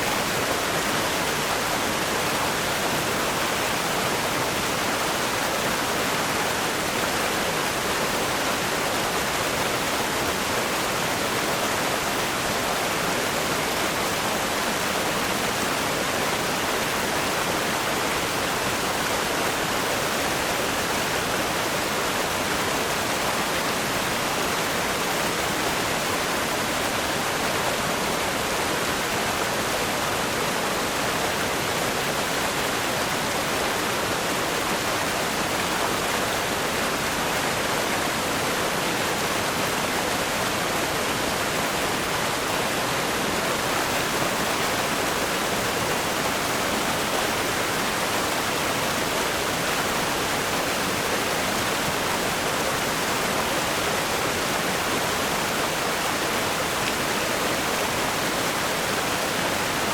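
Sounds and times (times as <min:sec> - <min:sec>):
river rapids rushing over rocks: 0:00.0 - 0:59.9.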